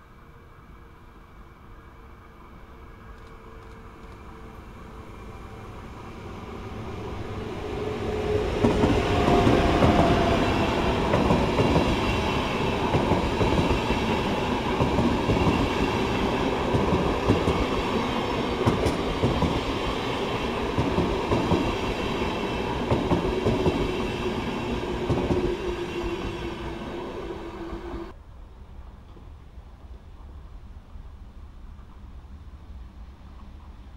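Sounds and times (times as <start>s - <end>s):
train rumbling past: 0.0s - 33.9s.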